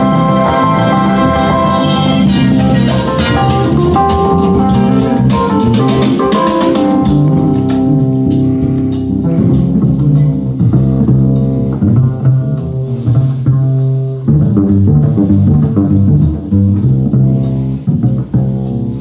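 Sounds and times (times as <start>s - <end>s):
guitar: 0.0s - 19.0s
plucked bass line: 0.0s - 19.0s.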